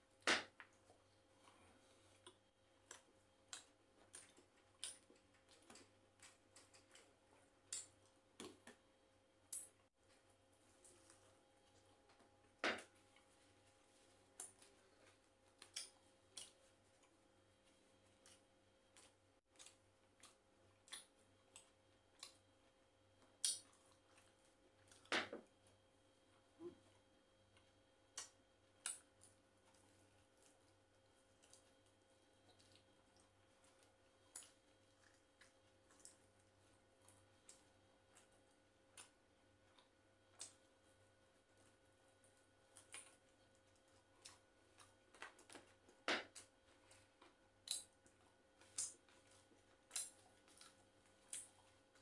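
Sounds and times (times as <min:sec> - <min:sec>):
person chewing and eating: 0:00.4 - 0:52.0.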